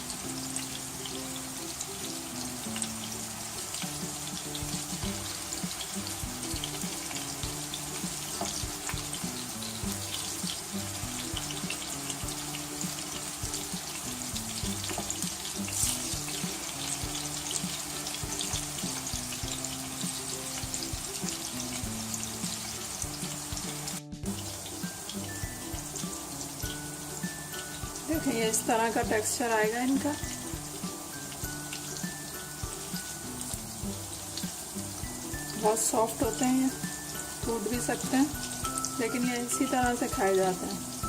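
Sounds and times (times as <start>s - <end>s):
background tune: 0.0s - 41.0s
kebabs sizzling in oil: 0.0s - 41.0s.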